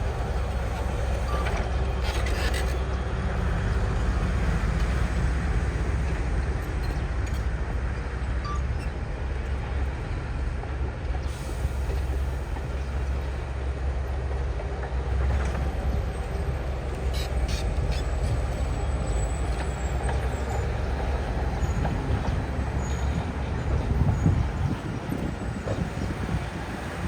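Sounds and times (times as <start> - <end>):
diesel engine low rumble: 0.0 - 27.0.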